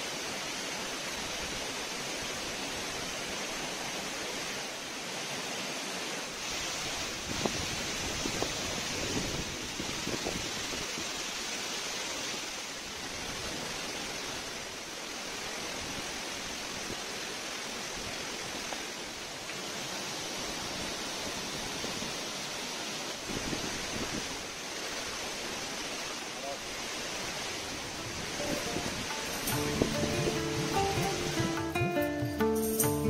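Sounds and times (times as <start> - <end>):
small waterfall rushing: 0.0 - 33.0.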